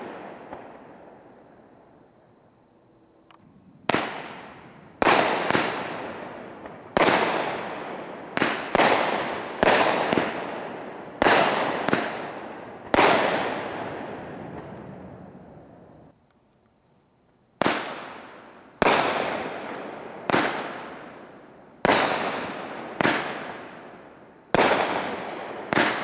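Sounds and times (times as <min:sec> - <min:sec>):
fireworks bangs echoing: 0:00.0 - 0:01.2, 0:03.8 - 0:15.1, 0:17.6 - 0:26.0.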